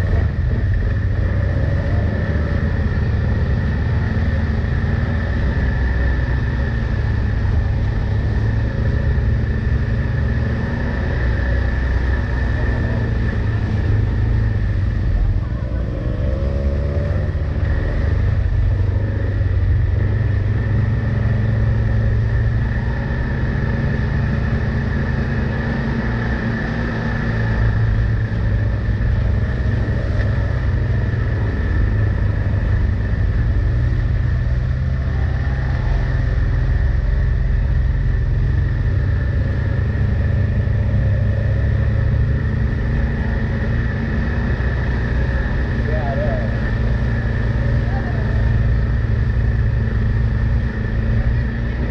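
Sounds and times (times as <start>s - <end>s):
high whine: 0.0s - 51.9s
utv engine running: 0.0s - 51.9s.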